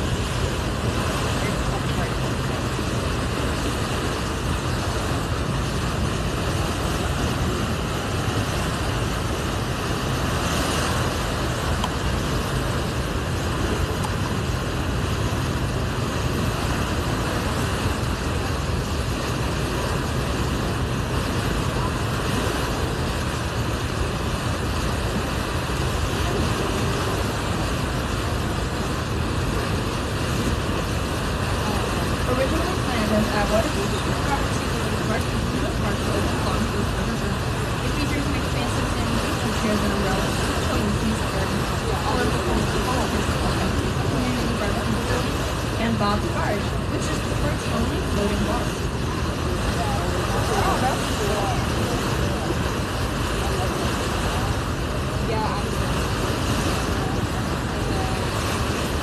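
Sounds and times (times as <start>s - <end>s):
boat engine rumble and hiss: 0.0s - 59.0s
wind on microphone: 0.0s - 59.0s.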